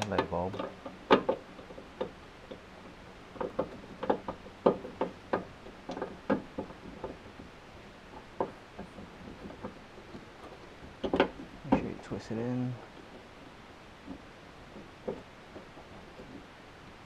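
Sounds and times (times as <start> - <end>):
plastic clicks and knocks: 0.0 - 2.6, 3.3 - 12.0, 14.0 - 16.5.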